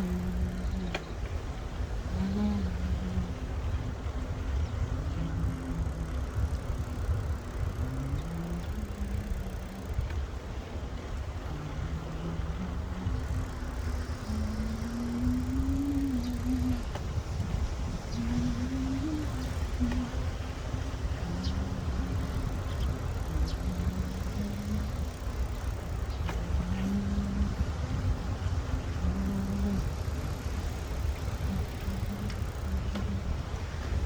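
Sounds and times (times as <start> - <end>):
motor hum changing pitch: 0.0 - 1.2, 2.0 - 34.0
low rumble: 0.0 - 34.0.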